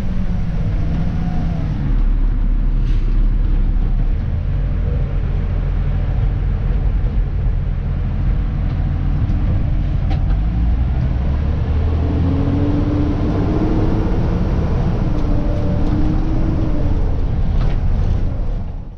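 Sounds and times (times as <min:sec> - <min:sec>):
steady whine: 0:00.0 - 0:18.9
truck diesel engine from cab: 0:00.0 - 0:18.9.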